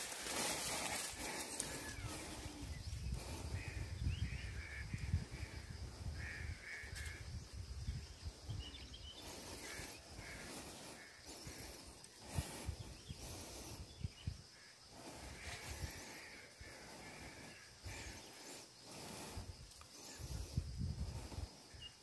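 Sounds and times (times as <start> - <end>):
birds calling: 0.0 - 22.0
wind on microphone: 1.2 - 18.3, 18.9 - 21.9.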